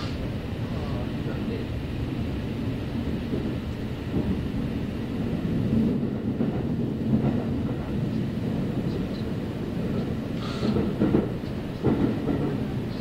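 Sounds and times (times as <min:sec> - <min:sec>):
train wheels on rails rumbling: 0:00.0 - 0:13.0.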